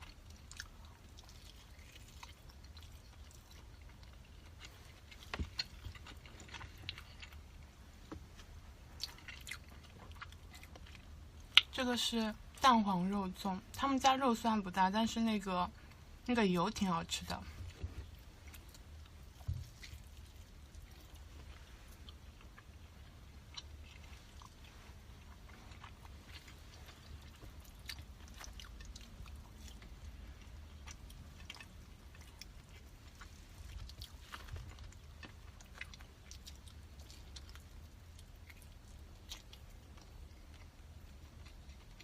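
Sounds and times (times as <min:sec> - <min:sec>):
person chewing sticky rice: 0:00.0 - 0:11.8, 0:17.6 - 0:42.0
faint low hum: 0:00.0 - 0:42.0.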